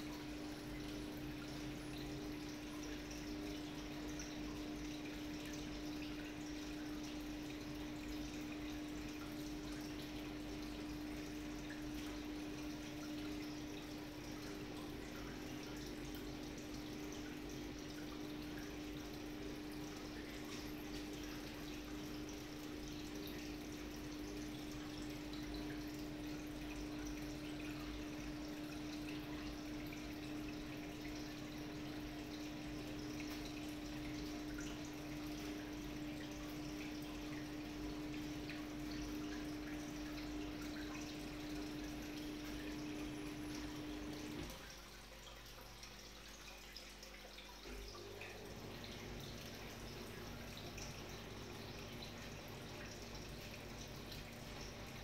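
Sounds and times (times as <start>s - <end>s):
aquarium water bubbling and dripping: 0.0s - 55.0s.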